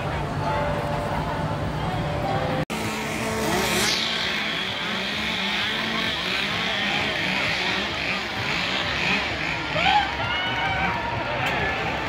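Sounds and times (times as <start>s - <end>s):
indistinct crowd voices: 0.0s - 12.0s.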